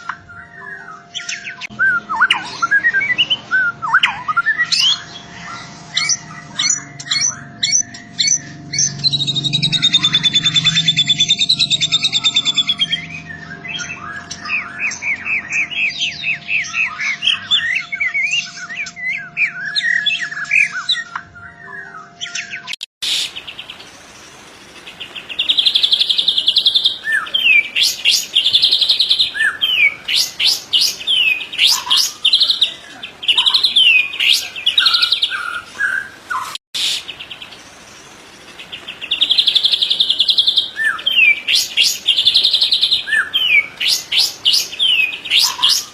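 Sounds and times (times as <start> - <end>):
bird singing trills and whistles: 0.0 - 45.9.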